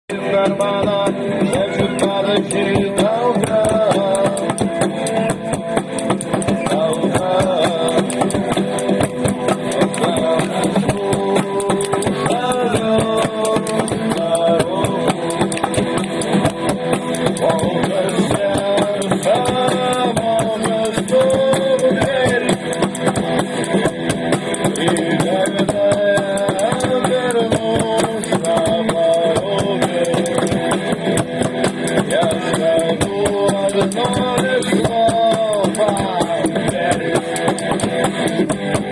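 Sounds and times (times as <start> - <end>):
band playing a song: 0.1 - 38.9
drummer beating buckets: 0.1 - 38.9.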